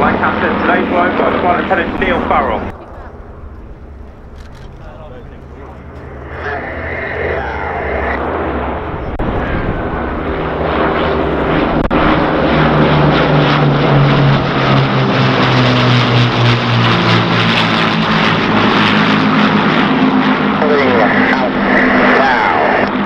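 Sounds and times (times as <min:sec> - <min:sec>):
propeller aircraft engines droning: 0:00.0 - 0:23.0.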